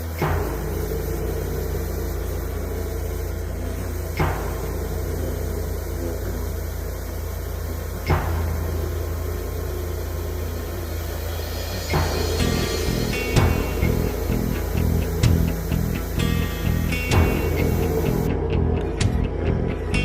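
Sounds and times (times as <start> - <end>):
power tool motor humming: 0.0 - 18.3.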